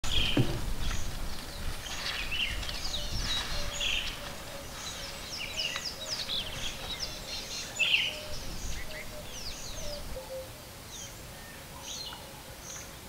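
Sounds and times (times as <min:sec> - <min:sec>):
wild birds chirping and whistling: 0:00.0 - 0:13.0.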